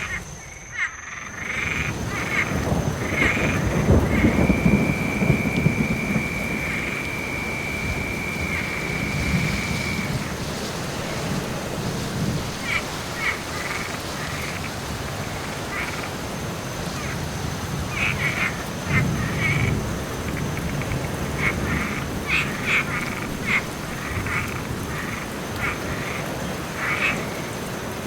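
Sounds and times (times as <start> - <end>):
frogs croaking: 0.0 - 28.0
steady rain: 0.0 - 28.0
thunder rumbling: 1.2 - 28.0.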